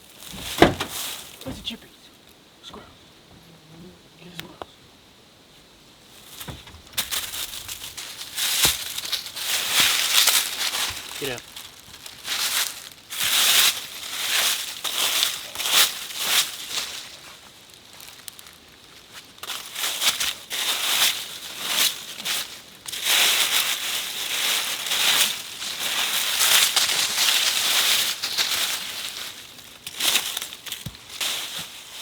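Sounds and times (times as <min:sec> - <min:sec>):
dry leaves rustling and crunching: 0:06.2 - 0:32.0.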